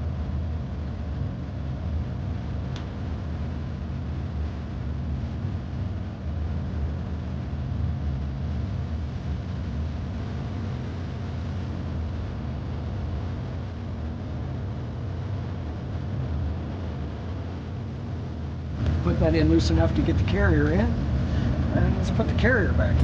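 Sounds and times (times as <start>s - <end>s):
constant hiss: 0.0s - 23.0s
low mechanical hum: 0.0s - 23.0s.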